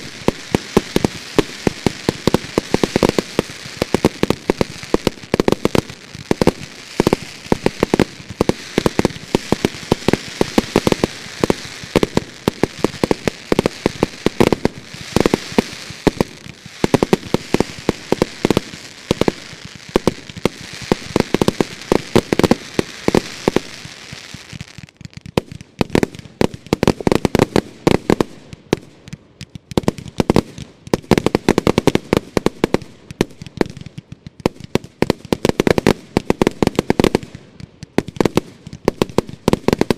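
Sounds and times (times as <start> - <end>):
fireworks bangs: 0.0 - 39.9
fireworks crackling hiss: 0.0 - 39.9.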